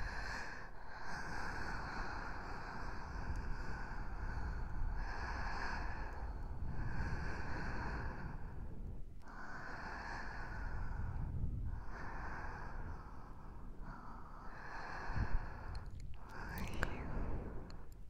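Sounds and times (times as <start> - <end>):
breaths into microphone: 0.0 - 18.0
steady low rumble: 0.8 - 18.0.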